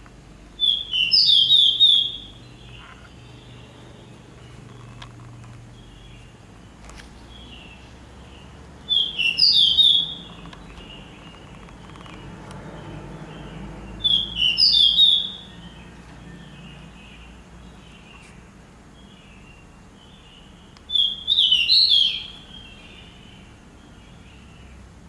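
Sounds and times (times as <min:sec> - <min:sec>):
faint birds chirping: 0:00.0 - 0:25.0
songbird singing high notes: 0:00.6 - 0:04.7, 0:07.3 - 0:18.3, 0:19.0 - 0:24.6.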